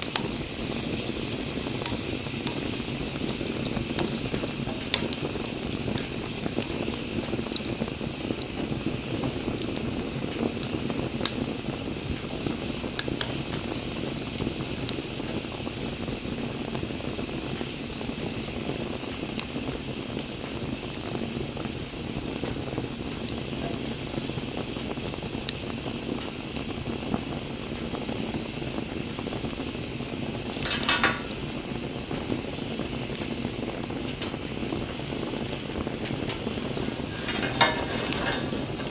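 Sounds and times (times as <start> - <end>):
campfire hissing: 0.0 - 38.9
fire crackles and pops: 0.0 - 38.9.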